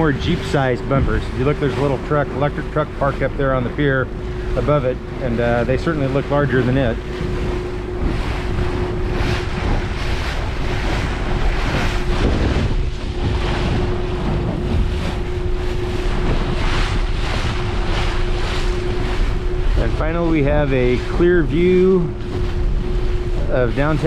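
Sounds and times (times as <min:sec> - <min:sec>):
outboard motor humming: 0:00.0 - 0:24.0
water splashing against hull: 0:00.0 - 0:24.0
wind buffeting microphone: 0:00.0 - 0:24.0.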